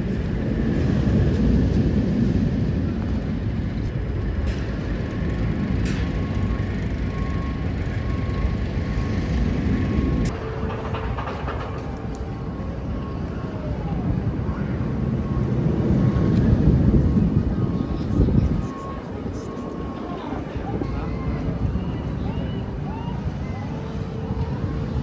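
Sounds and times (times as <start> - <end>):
roller coaster rumbling on track: 0.0 - 25.0.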